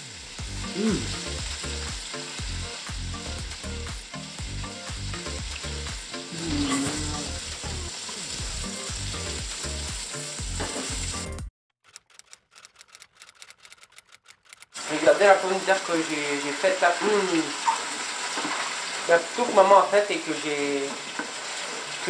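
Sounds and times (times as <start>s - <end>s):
oil sizzling in a frying pan: 0.0s - 11.4s, 14.8s - 22.0s.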